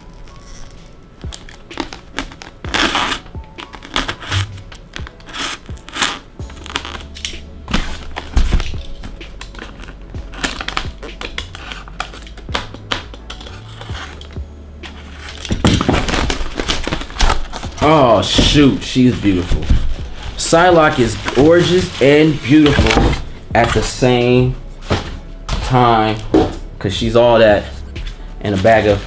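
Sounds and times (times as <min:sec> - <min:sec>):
packaging crinkling and tearing: 0:00.0 - 0:24.0, 0:28.4 - 0:29.0
background music: 0:00.0 - 0:29.0.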